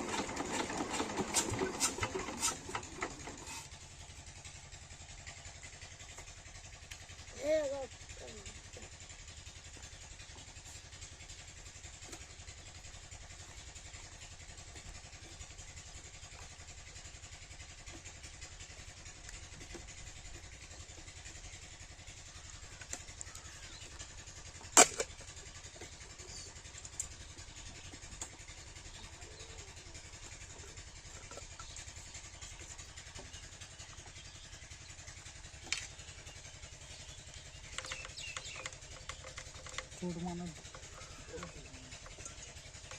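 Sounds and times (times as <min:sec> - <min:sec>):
diesel pump engine running: 0:00.0 - 0:42.9.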